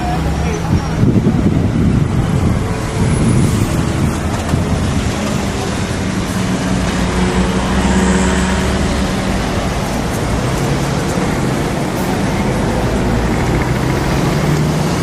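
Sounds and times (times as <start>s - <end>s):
cars passing: 0.0s - 15.0s
steady engine hum: 0.0s - 15.0s.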